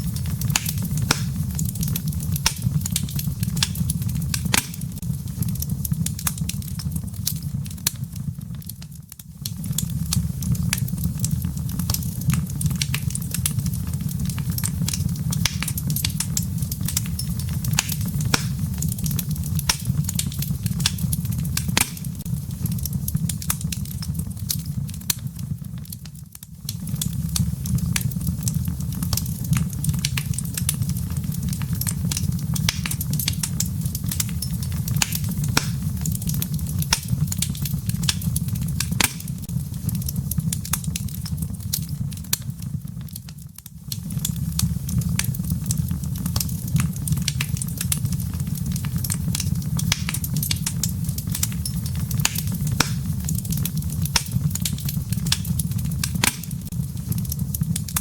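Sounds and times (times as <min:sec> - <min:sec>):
fire flames rumbling: 0:00.0 - 0:58.0
firewood popping and snapping: 0:00.0 - 0:58.0.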